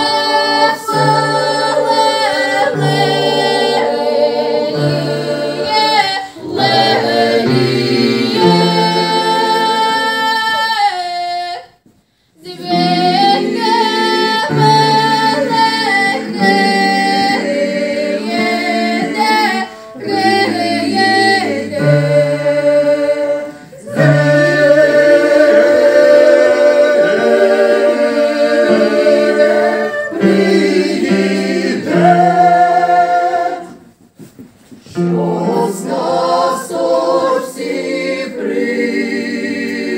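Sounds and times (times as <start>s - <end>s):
mixed choir singing: 0.0s - 11.8s, 12.4s - 34.2s, 34.8s - 39.9s.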